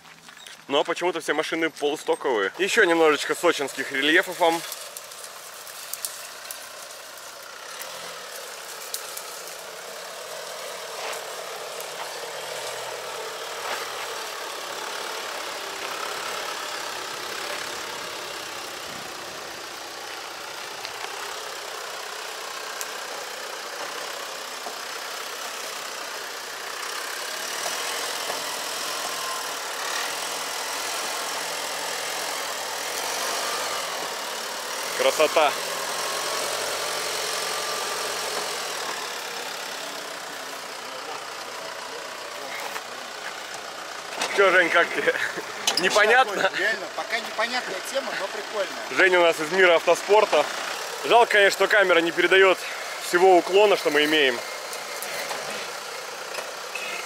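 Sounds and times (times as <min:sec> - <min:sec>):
diesel engine noise: 0:00.0 - 0:57.0
tyre and road noise: 0:00.0 - 0:57.0.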